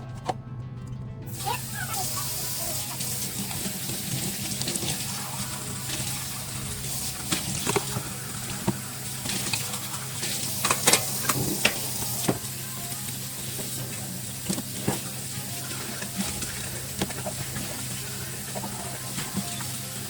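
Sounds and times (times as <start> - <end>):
tap water running into sink: 1.3 - 20.0.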